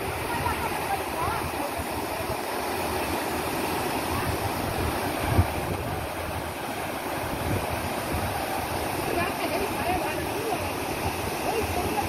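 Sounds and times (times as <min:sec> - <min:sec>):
flood river rushing: 0:00.0 - 0:12.0.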